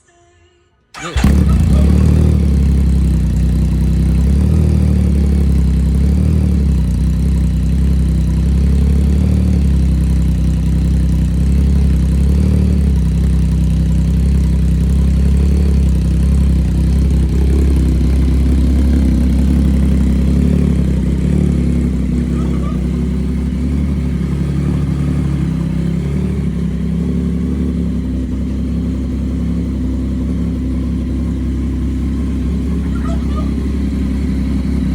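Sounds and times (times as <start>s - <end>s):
motorcycle engine idling: 1.0s - 34.9s.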